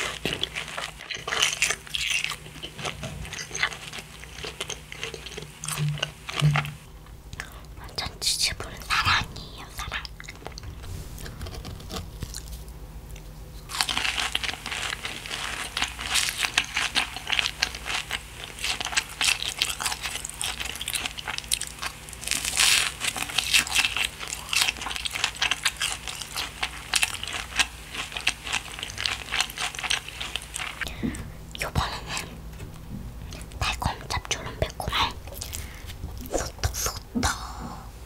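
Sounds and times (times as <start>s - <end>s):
crunching crispy fried food: 0.0s - 6.9s, 9.9s - 32.3s, 33.2s - 36.9s.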